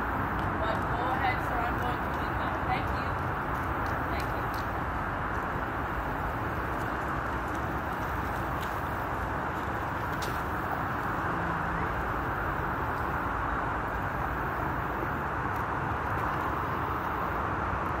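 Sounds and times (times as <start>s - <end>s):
road traffic roar: 0.0s - 18.0s.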